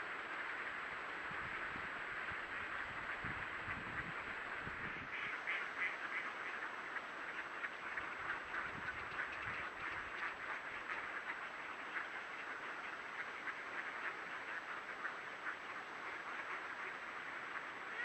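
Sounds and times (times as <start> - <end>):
flock of ducks quacking: 0.0 - 18.0.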